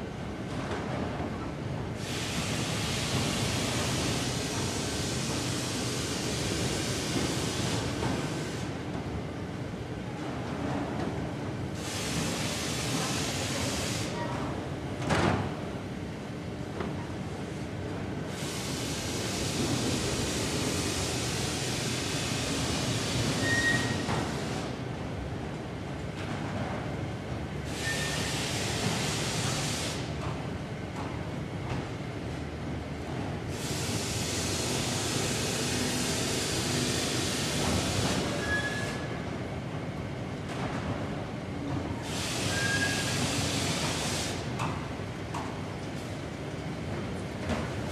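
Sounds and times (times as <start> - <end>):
industrial machinery rumble and hiss: 0.0 - 47.9.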